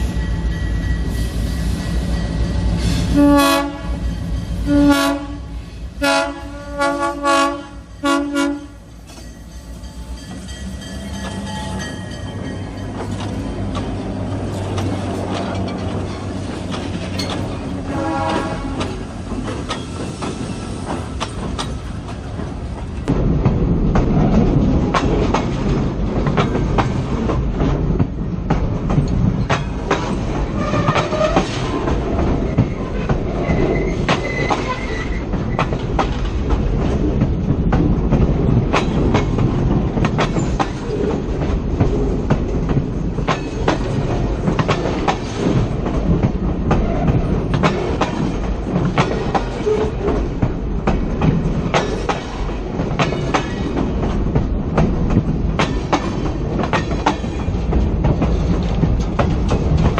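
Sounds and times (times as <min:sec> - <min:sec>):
railcar wheels rumbling: 0:00.0 - 0:59.9
wheels clacking over rail joints: 0:09.0 - 0:59.9.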